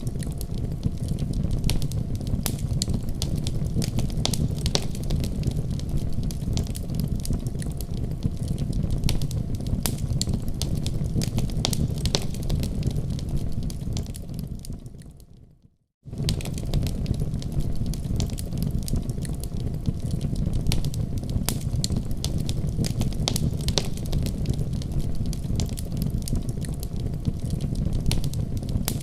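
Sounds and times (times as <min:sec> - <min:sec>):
low fire rumble: 0:00.0 - 0:15.4, 0:16.0 - 0:29.0
wood fire crackling and popping: 0:00.0 - 0:15.4, 0:16.0 - 0:29.0.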